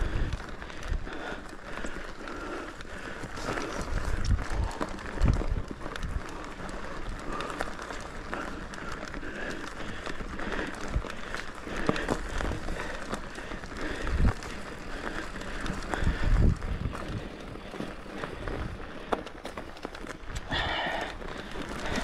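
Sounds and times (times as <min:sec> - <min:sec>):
bike rattling and clicking: 0:00.0 - 0:22.0
tyre and trail noise: 0:00.0 - 0:22.0.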